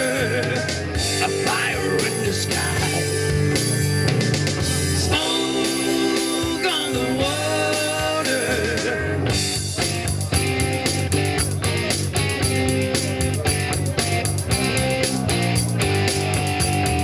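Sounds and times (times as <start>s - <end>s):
rock band playing live: 0.0s - 17.0s
sliding guitar lead line: 0.0s - 17.0s.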